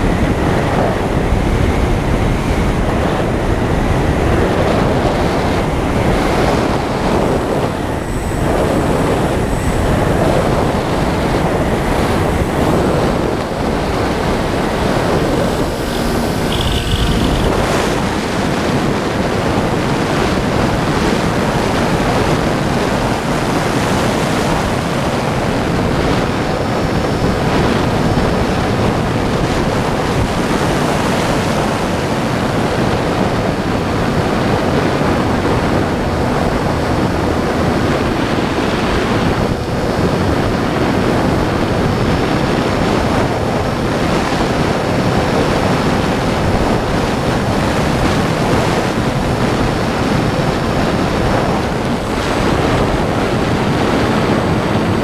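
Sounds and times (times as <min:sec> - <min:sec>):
faint high motor whine: 0:00.0 - 0:44.1
wind roaring over microphone: 0:00.0 - 0:55.0.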